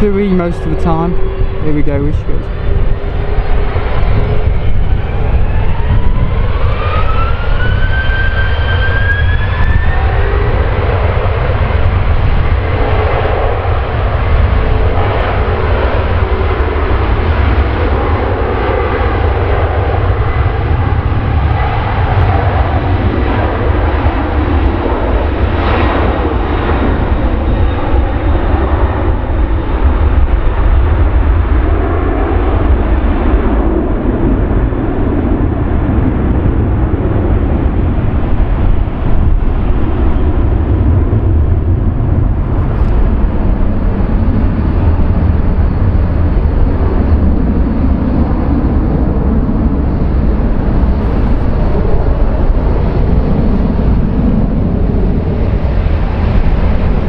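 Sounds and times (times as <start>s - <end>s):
jet engines at takeoff: 0.0s - 57.0s.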